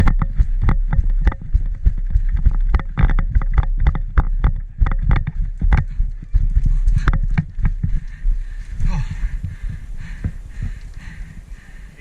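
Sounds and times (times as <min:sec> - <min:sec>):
brisk thudding footsteps: 0:00.0 - 0:12.0.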